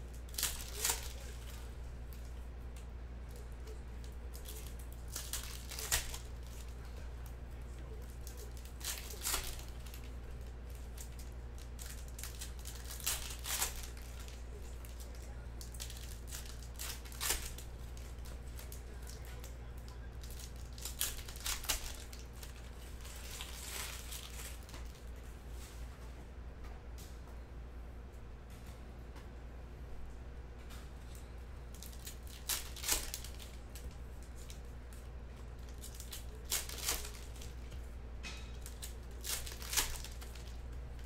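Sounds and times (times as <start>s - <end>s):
packaging crinkling and tearing: 0.0s - 25.2s, 31.2s - 41.0s
low steady hum: 0.0s - 41.0s.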